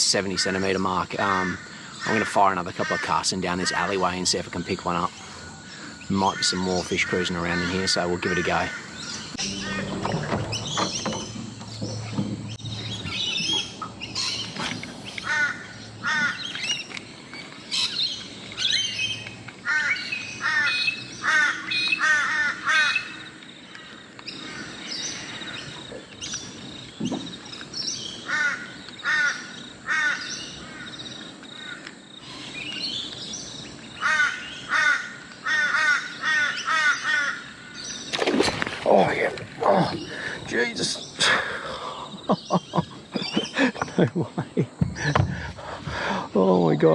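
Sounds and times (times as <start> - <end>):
other birds chirping faintly: 0.3 - 46.9.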